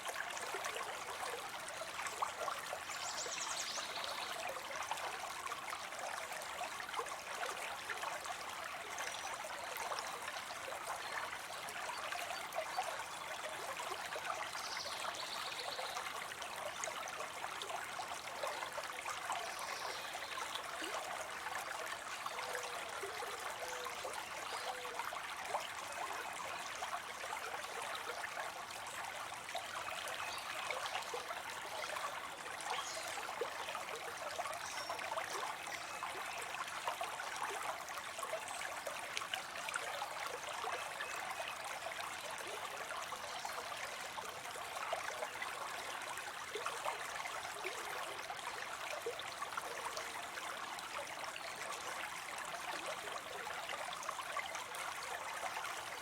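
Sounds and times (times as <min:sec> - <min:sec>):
water trickling into pond: 0:00.0 - 0:56.0.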